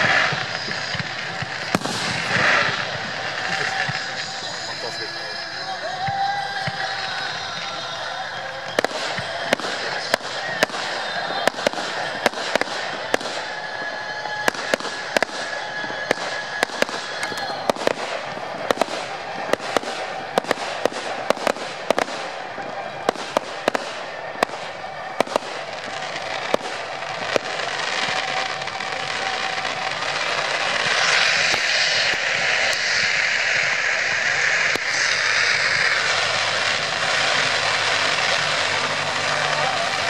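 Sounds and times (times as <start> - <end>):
continuous rushing background: 0.0 - 40.0
fireworks bangs and cracks: 0.0 - 40.0.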